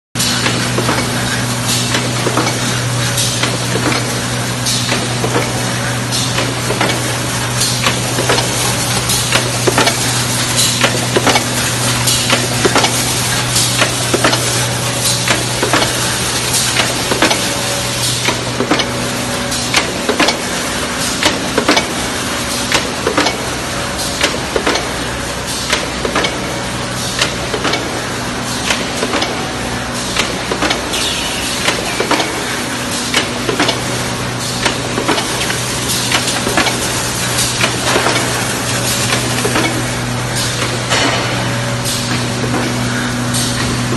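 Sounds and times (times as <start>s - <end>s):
power press hum and hiss: 0.2s - 43.9s
power press sharp clacks: 0.2s - 43.9s.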